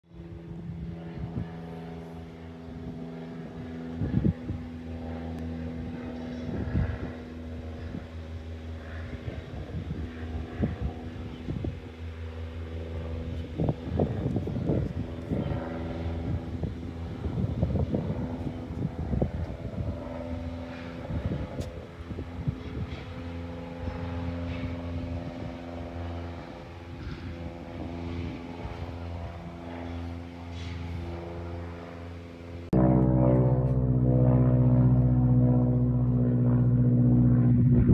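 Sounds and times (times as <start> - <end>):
propeller plane flying overhead: 0.0 - 37.9
wind buffeting microphone: 0.1 - 37.9.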